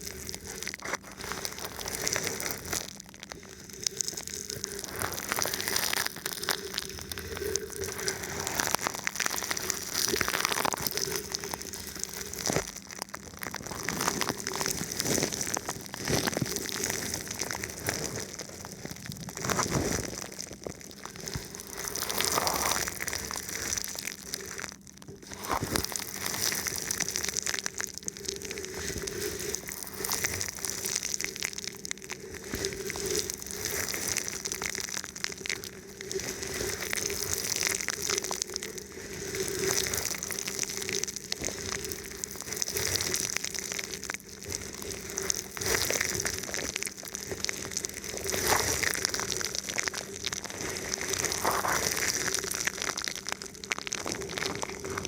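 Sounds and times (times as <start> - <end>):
faint steady hum: 0.0 - 55.0
plastic crinkling on microphone: 0.0 - 55.0.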